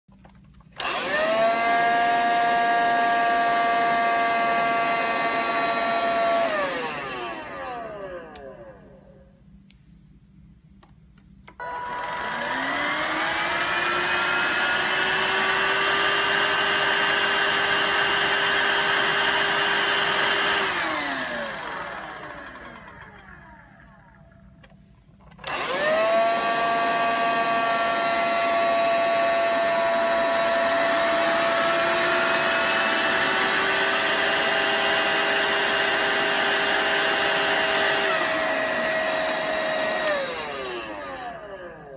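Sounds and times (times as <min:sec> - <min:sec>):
vacuum cleaner motor whine: 0:00.8 - 0:09.4, 0:11.5 - 0:41.9.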